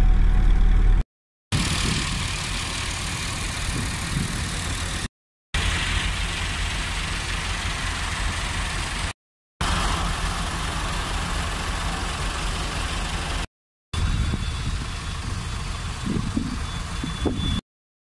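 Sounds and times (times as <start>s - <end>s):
tractor diesel engines idling: 1.6s - 17.4s.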